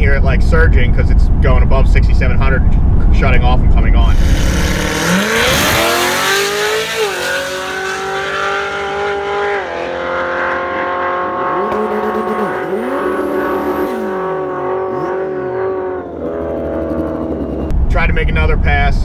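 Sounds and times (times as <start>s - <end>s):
car engine at full throttle: 1.2s - 18.0s.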